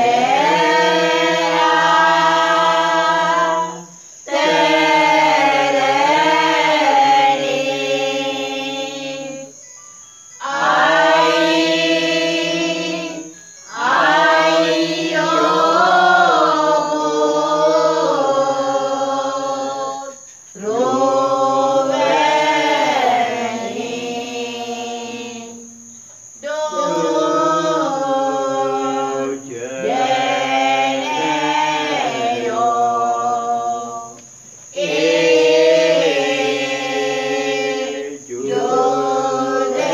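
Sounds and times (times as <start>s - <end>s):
group singing hymns unaccompanied: 0.0s - 9.6s, 10.4s - 39.9s.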